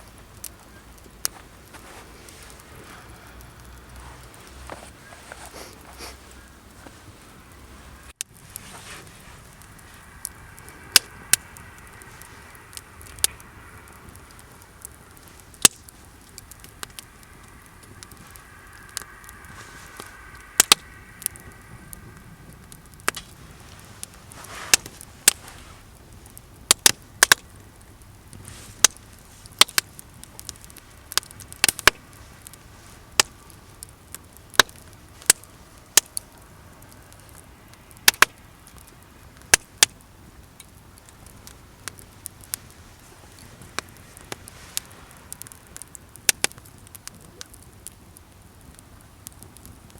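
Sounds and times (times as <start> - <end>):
campfire crackling: 0.0 - 49.9
sharp pops from burning wood: 0.0 - 49.9.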